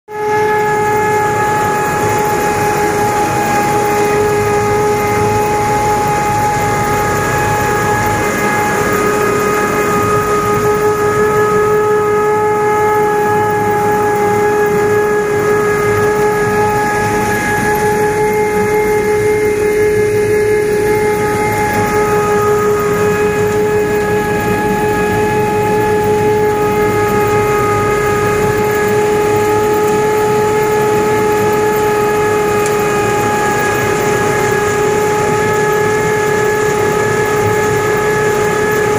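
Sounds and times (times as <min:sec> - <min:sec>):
threshing machine running: 0:00.1 - 0:38.9.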